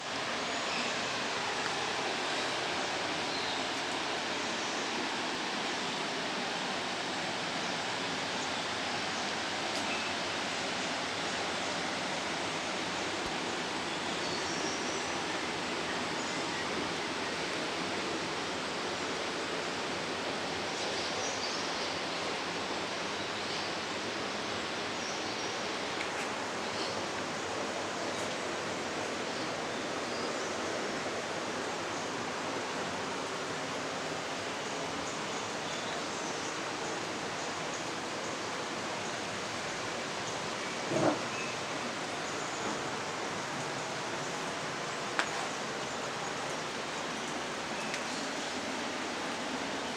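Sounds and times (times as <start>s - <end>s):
flowing water rushing: 0.0s - 49.9s.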